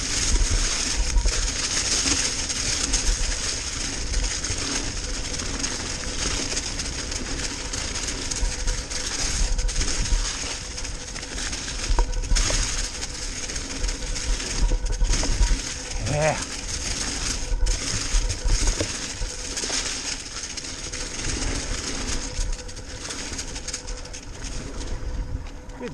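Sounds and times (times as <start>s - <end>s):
bike tyres crunching through leaves: 0.0s - 25.9s
wind rumble on microphone: 0.0s - 25.9s.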